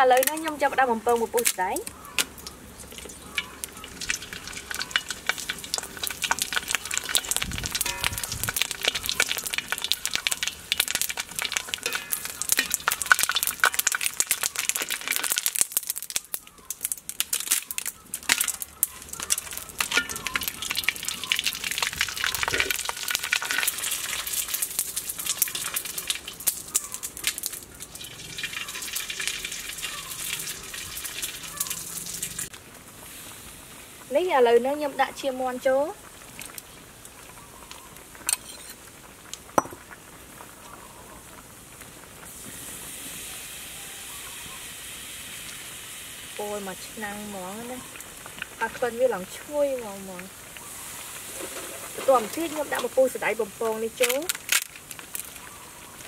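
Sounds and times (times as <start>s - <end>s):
frying in hot oil: 0.0s - 56.0s.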